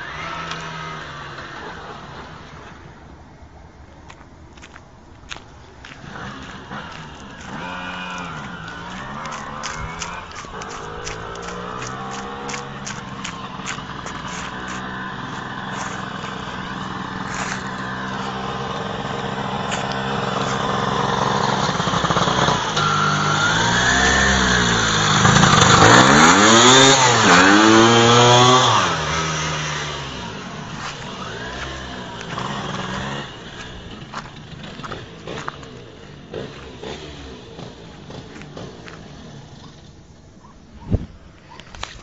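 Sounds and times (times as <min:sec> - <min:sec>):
two-stroke engine revving: 0:00.0 - 0:02.6, 0:06.0 - 0:40.0.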